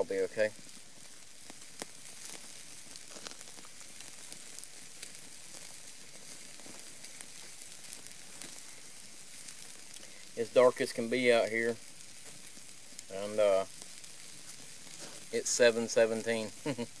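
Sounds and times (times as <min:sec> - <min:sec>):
fire pops and crackles: 0:00.0 - 0:17.0
steak sizzling over fire: 0:00.0 - 0:17.0.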